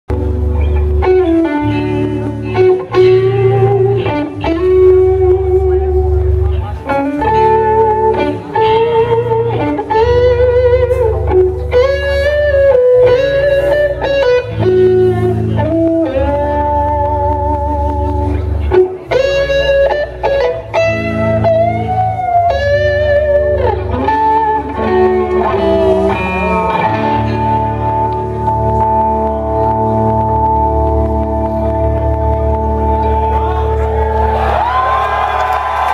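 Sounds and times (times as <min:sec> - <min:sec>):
bass line: 0:00.1 - 0:35.9
electric guitar melody: 0:00.1 - 0:35.9.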